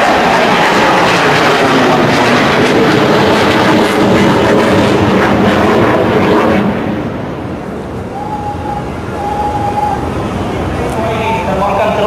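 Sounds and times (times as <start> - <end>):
jet aircraft flying overhead: 0.0 - 12.0.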